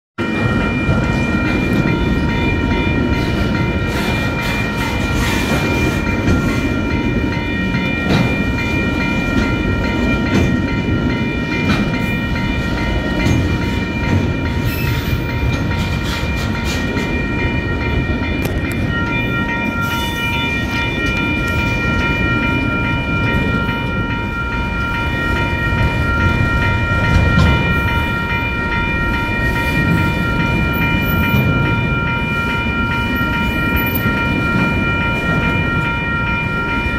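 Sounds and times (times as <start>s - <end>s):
freight train rumble and clatter: 0.2s - 36.9s
high-pitched ringing: 0.2s - 36.9s.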